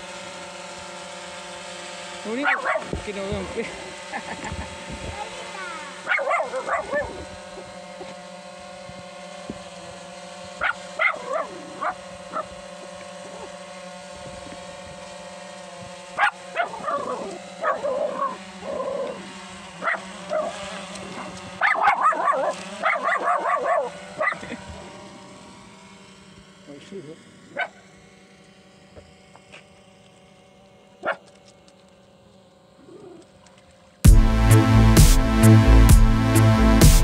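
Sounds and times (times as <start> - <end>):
drone propellers humming: 0.0 - 37.0.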